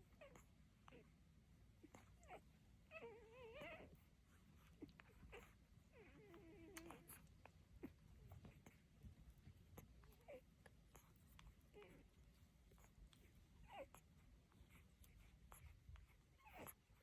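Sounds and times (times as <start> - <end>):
puppy whining: 0.0 - 17.0.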